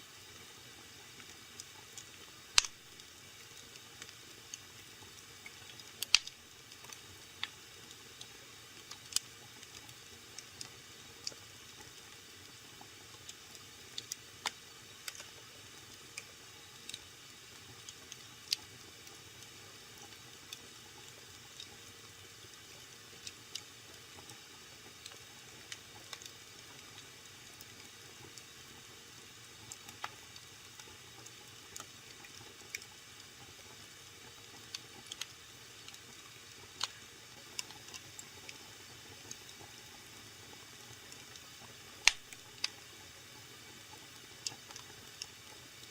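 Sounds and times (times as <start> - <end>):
faint steady hiss: 0.0 - 45.9
wood fire crackling: 0.3 - 12.1, 13.1 - 21.8, 22.6 - 28.8, 29.6 - 33.5, 34.4 - 39.6, 41.0 - 42.8.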